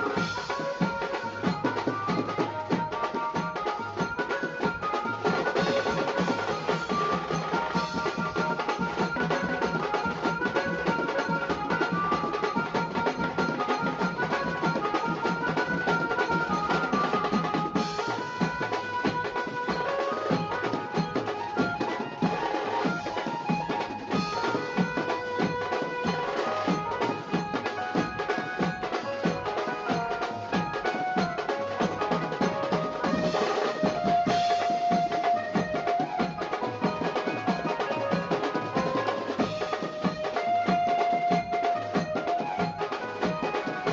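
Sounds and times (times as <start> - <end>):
fast steady drumming: 0.0 - 43.9.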